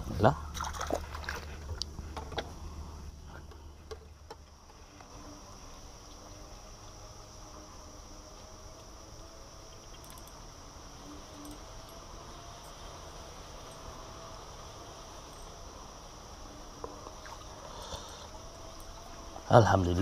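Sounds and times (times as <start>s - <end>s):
high-pitched insect drone: 2.5s - 20.0s.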